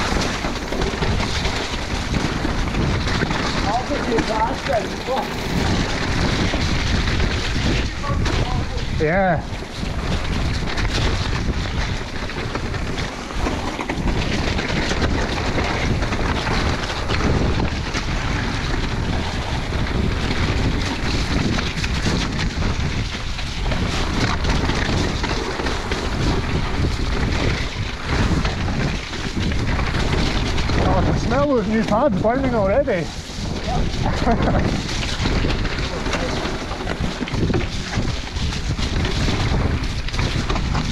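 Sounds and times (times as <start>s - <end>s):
bike knocks and rattles: 0.0s - 40.9s
bike tyre noise: 0.0s - 40.9s
wind rumbling on microphone: 0.0s - 40.9s.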